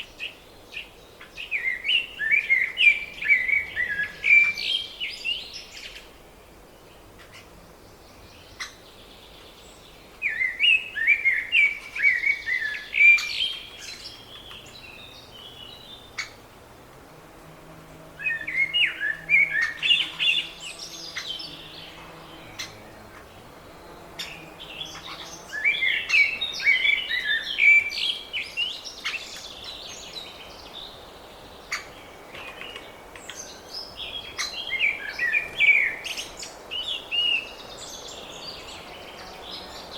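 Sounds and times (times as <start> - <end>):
outdoor background: 0.0 - 39.9
songbird chirping: 0.0 - 39.9.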